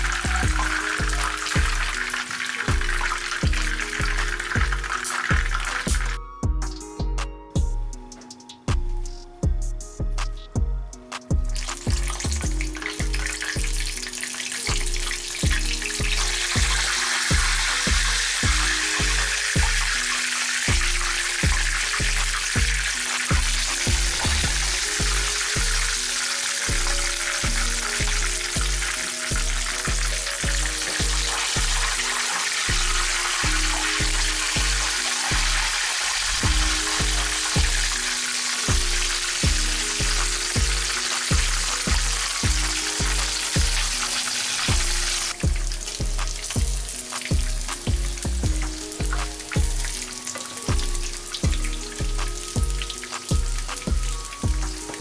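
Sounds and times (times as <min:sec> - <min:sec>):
chicken frying in hot oil: 0:00.0 - 0:06.2, 0:11.4 - 0:55.0
background music with bass beat: 0:00.0 - 0:55.0.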